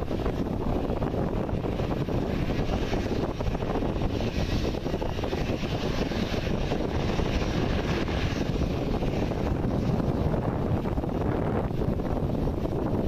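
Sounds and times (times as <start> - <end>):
jet engines running at low thrust: 0.0 - 13.0
wind rumbling on microphone: 0.0 - 13.0.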